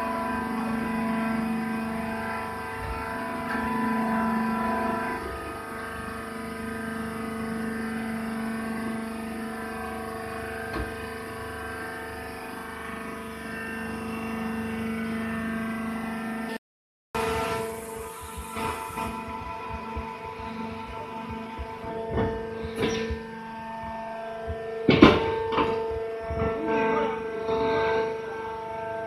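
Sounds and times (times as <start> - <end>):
hydraulic motor and pump humming: 0.0 - 16.6, 17.2 - 29.0.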